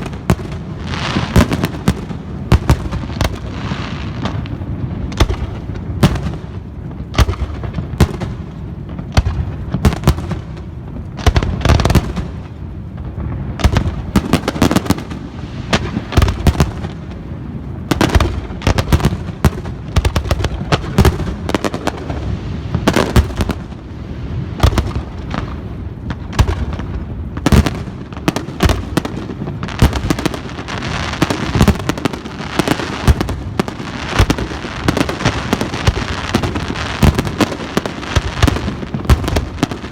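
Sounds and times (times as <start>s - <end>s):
fireworks booming: 0.0s - 39.9s
fireworks crackling: 0.0s - 39.9s.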